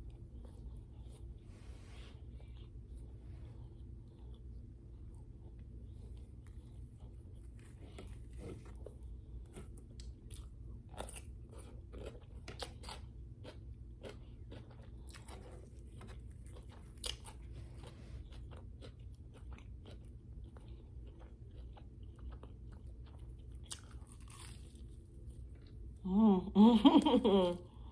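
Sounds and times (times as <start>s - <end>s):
person chewing crunchy food: 0.0s - 1.5s, 2.1s - 26.0s
low steady hum: 0.0s - 27.9s.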